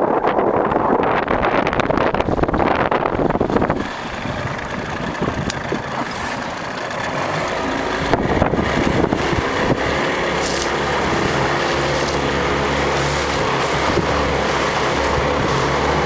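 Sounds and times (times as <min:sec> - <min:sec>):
motorboat engine running: 0:00.0 - 0:16.0
wind on microphone: 0:00.0 - 0:16.0
water slapping hull: 0:00.8 - 0:16.0.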